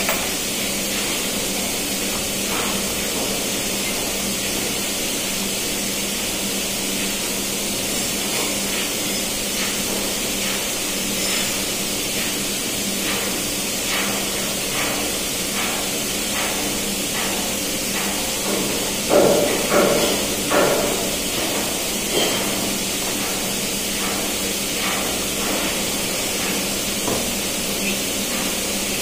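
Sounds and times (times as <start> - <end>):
machinery and ventilation hum: 0.0 - 29.0.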